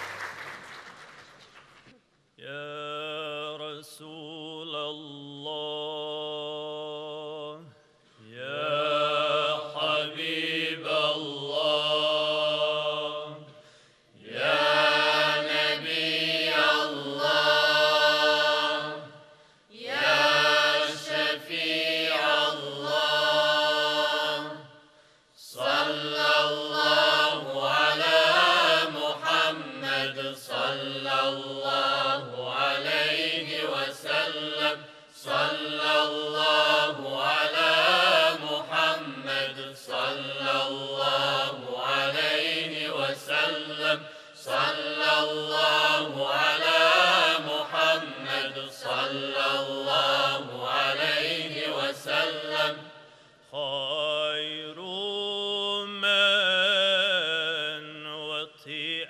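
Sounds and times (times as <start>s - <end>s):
male group singing a cappella: 2.4s - 13.6s, 14.2s - 19.2s, 19.8s - 24.8s, 25.4s - 59.0s.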